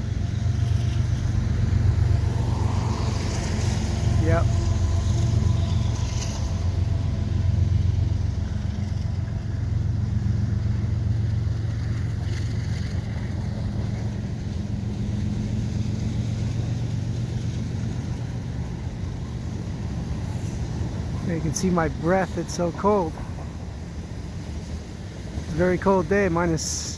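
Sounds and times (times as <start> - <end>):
diesel locomotive engine drone: 0.0 - 26.9.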